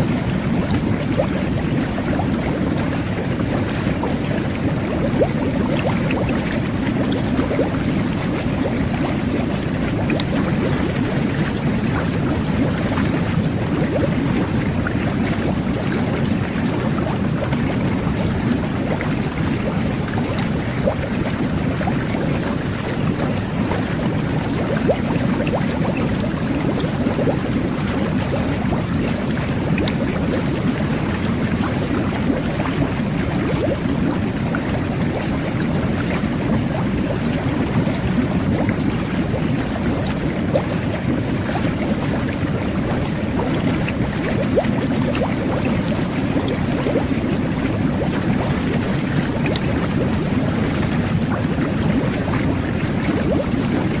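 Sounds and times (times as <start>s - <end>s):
whirlpool tub jets churning water: 0.0s - 54.0s.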